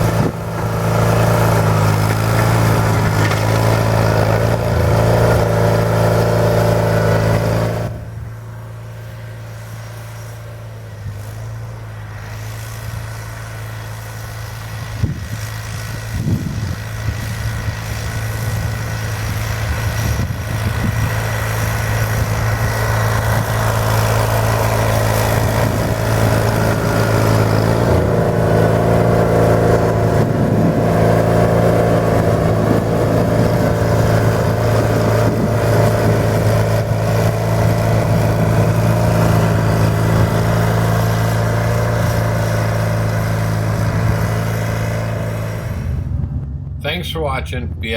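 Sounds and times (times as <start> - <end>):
vehicle engine plowing snow: 0.0 - 47.9.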